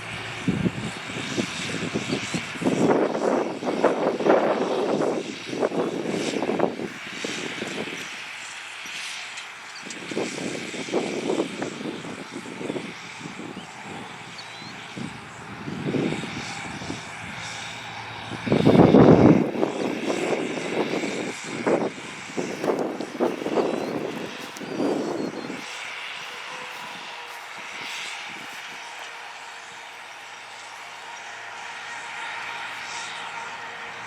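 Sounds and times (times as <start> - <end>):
wind gusts on microphone: 0.0 - 9.2, 9.8 - 34.0
tractor diesel engine running: 0.0 - 34.0.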